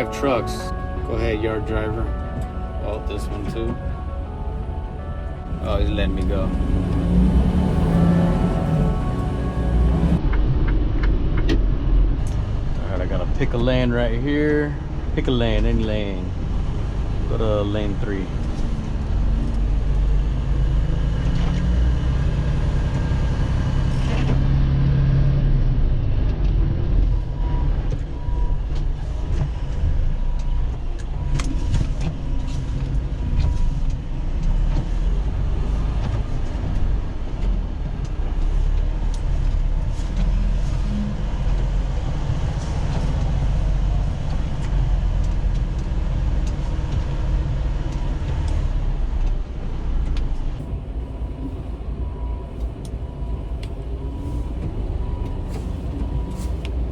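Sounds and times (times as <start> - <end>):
diesel truck engine rumble: 0.0 - 56.9.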